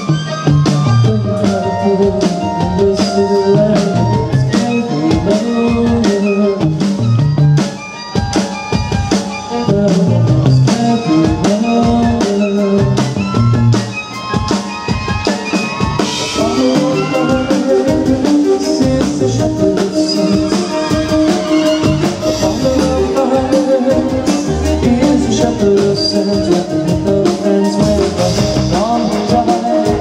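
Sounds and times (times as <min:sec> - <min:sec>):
drum kit steady beat: 0:00.0 - 0:30.0.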